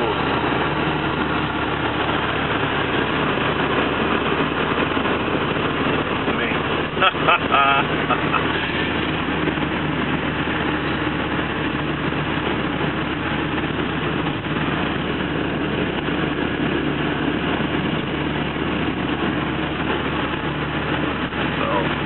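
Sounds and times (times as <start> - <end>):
car engine drone: 0.0 - 22.0
road and tyre noise: 0.0 - 22.0.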